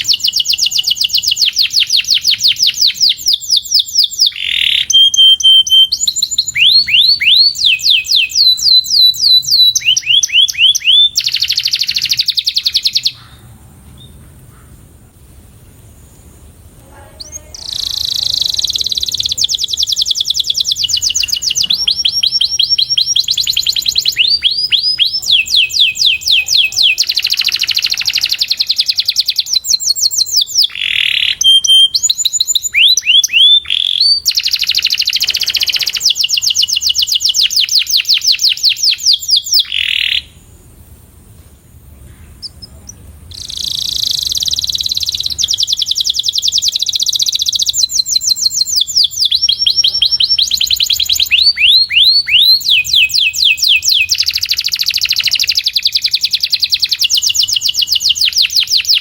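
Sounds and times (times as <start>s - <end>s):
canary singing trills: 0.0s - 14.2s, 16.6s - 40.5s, 42.0s - 59.0s.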